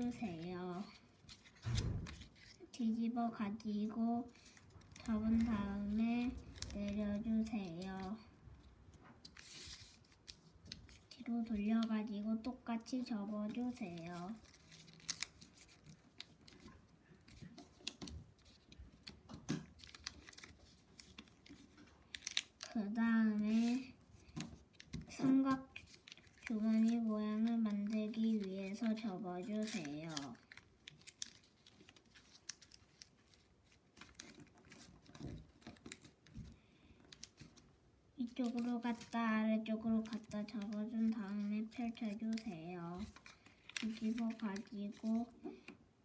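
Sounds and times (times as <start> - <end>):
paper crinkling: 0.0 - 2.7, 4.3 - 12.1, 13.0 - 45.7.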